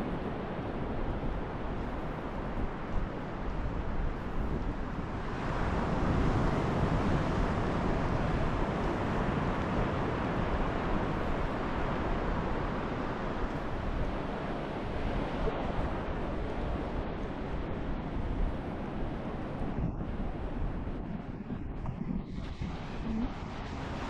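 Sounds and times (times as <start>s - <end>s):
ocean surf washing onto beach: 0.0s - 24.0s
wind on microphone: 0.0s - 24.0s.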